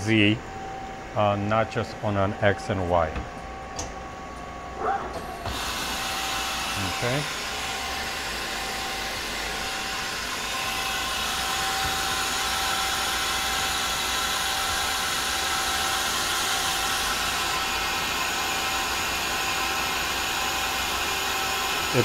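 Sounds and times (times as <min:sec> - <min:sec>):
thin steady whine: 0:00.0 - 0:17.9
lathe machine hum and hiss: 0:00.0 - 0:22.0.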